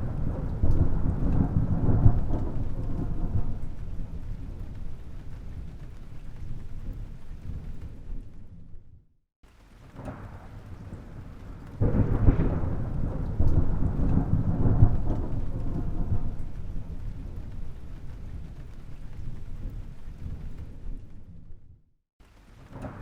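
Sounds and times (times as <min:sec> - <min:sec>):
thunder rumbling: 0:00.0 - 0:09.0, 0:09.7 - 0:21.8, 0:22.5 - 0:23.0.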